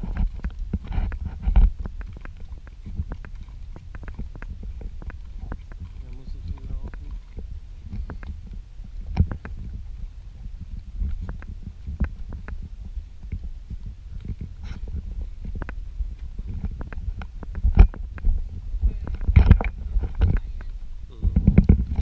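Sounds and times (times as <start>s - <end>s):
hooves and tack knocking: 0.0s - 22.0s
low rumble on microphone: 0.0s - 22.0s.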